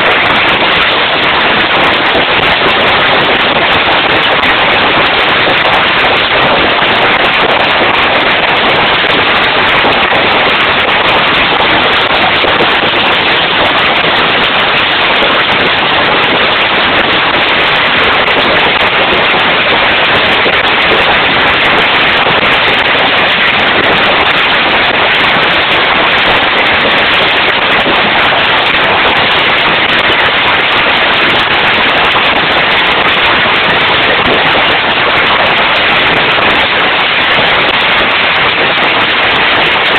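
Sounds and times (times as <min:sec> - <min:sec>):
heavy hail clattering: 0:00.0 - 0:39.9.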